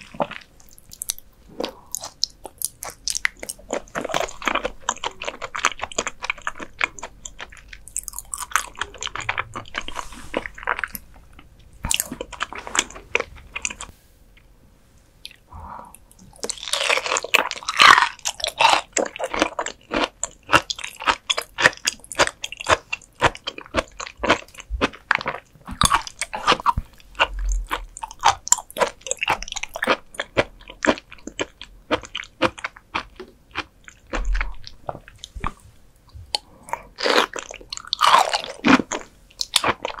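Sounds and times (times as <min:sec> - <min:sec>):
wet chewing and crunching: 0:00.0 - 0:13.9, 0:16.1 - 0:40.0.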